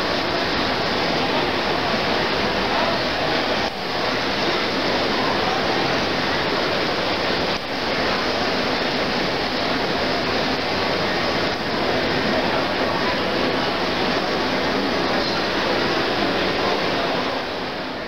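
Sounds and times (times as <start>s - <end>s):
distant voices: 0.0s - 18.0s.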